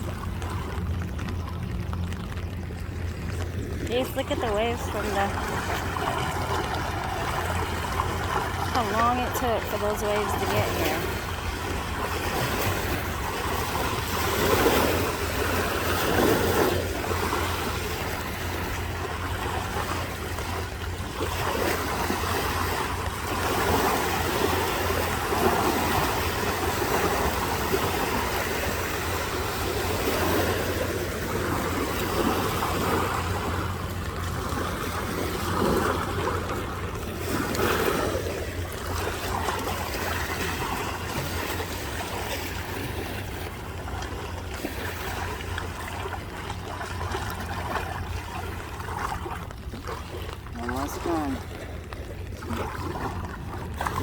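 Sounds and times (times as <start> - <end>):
steady low rumble: 0.0 - 54.0
waves washing against bank: 0.0 - 54.0.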